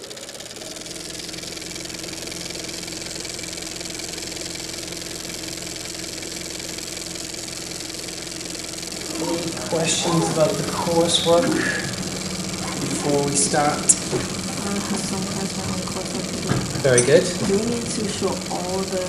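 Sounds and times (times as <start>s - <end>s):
machine hum with low tones: 0.0s - 19.0s.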